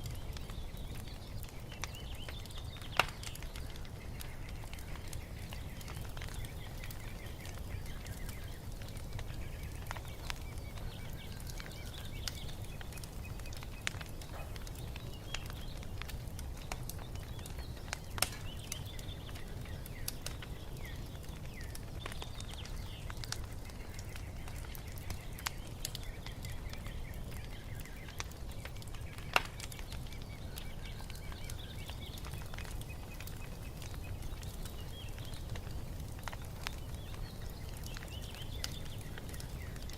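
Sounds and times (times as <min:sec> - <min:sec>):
small birds chirping: 0:00.0 - 0:39.9
wood fire crackling and popping: 0:00.0 - 0:39.9.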